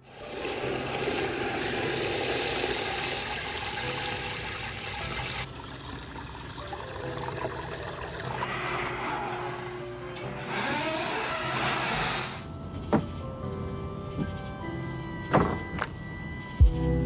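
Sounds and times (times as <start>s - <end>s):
background music: 0.1s - 17.0s.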